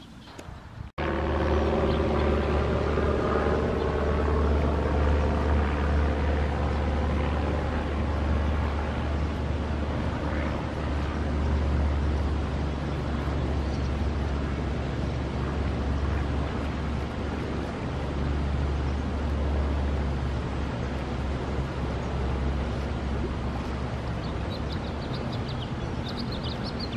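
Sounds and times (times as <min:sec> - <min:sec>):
motor rumbling and humming: 0:00.0 - 0:26.9.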